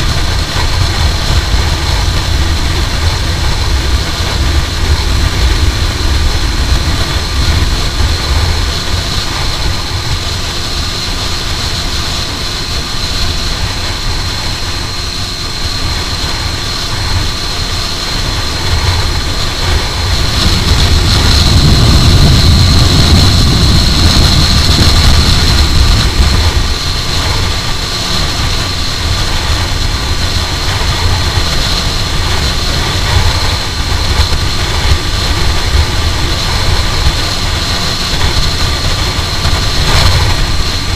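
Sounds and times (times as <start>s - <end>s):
motorcycle engine at steady revs: 0.0s - 40.9s
wind rumble on microphone: 0.0s - 40.9s.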